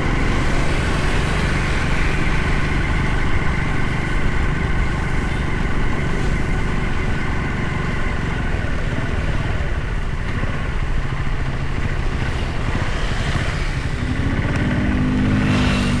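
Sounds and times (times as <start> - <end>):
train passing rumble: 0.0 - 16.0.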